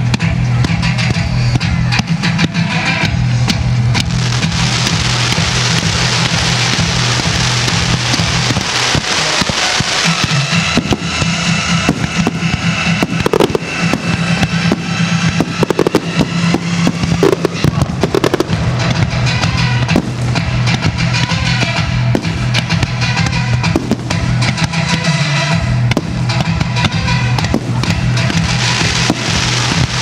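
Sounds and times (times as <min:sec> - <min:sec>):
fireworks bangs and crackling: 0:00.0 - 0:30.0
loud music with a beat: 0:00.0 - 0:30.0.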